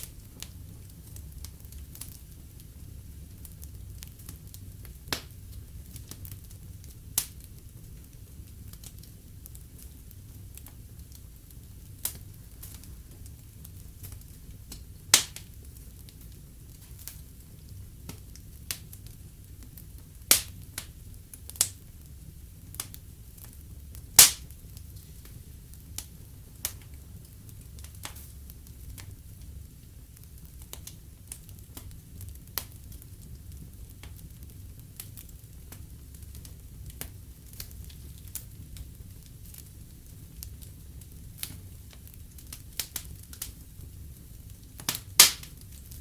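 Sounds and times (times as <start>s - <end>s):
low rumble of flames: 0.0s - 46.0s
sharp pops from fire: 0.0s - 46.0s
wood fire crackling: 0.0s - 46.0s.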